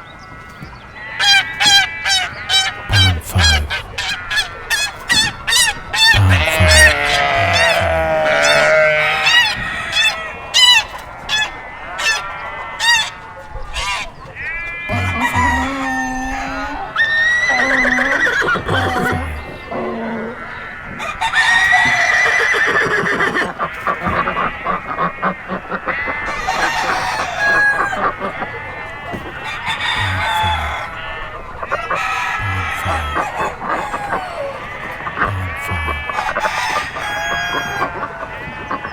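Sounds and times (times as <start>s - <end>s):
chickens clucking: 0.0s - 38.9s
loud honking calls: 0.0s - 38.9s
rooster crowing: 1.1s - 14.3s, 14.9s - 18.5s, 19.3s - 24.2s, 26.1s - 38.6s.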